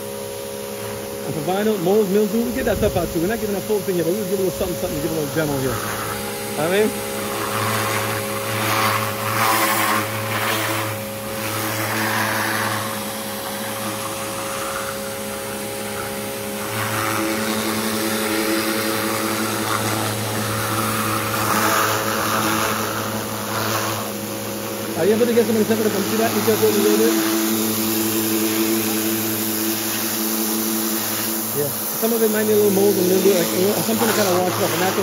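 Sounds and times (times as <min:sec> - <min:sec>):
pressure washer pump humming: 0:00.0 - 0:35.0
water jet hissing: 0:00.0 - 0:35.0.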